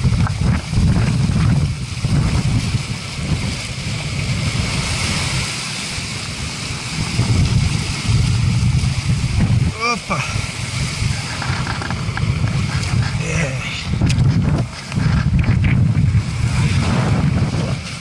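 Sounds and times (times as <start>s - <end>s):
waves breaking against rocks: 0.0s - 18.0s
wind buffeting microphone: 0.0s - 18.0s.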